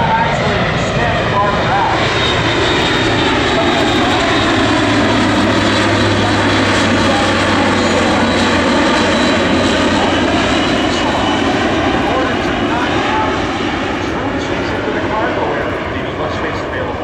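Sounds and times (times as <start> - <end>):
turboprop engines and propellers: 0.0 - 17.0.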